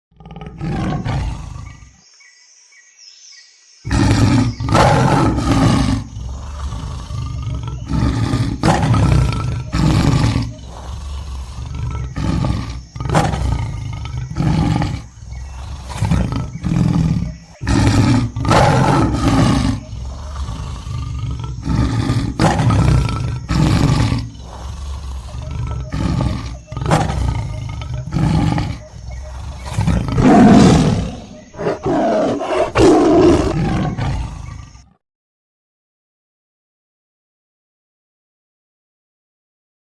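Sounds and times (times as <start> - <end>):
tiger roaring and growling: 0.1 - 2.0, 3.9 - 35.0.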